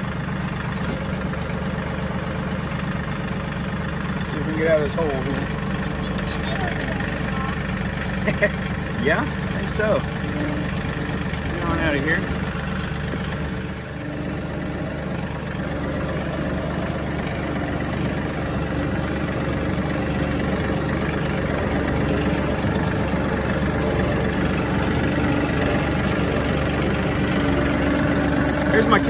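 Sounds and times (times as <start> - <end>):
tractor diesel engine: 0.0 - 29.0.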